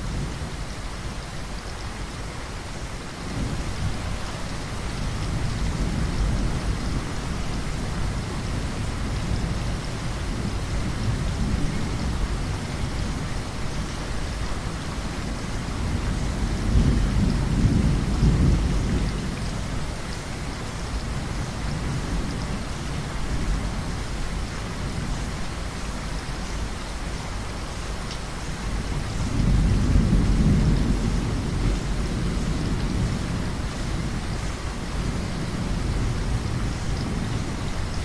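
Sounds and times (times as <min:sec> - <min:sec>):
heavy rain falling: 0:00.0 - 0:38.0
thunder rumbling: 0:03.3 - 0:25.8, 0:28.6 - 0:38.0.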